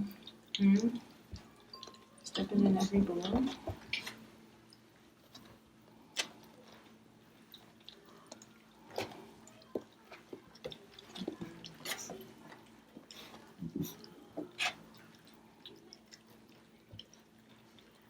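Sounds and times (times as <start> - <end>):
puppies eating and lapping: 0.0 - 18.0.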